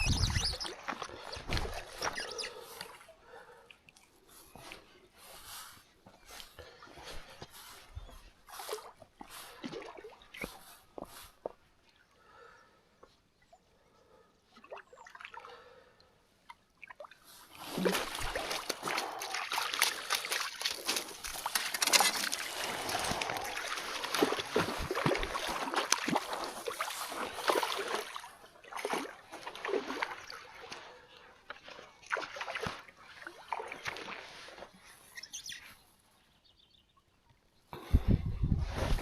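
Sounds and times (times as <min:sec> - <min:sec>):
water splashing and sloshing: 0:00.0 - 0:35.2.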